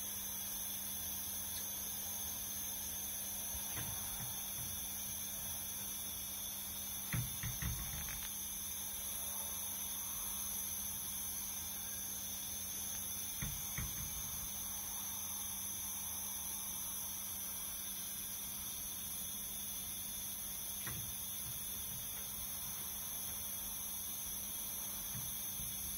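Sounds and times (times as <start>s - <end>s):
aquarium equipment hiss and hum: 0.0s - 25.9s.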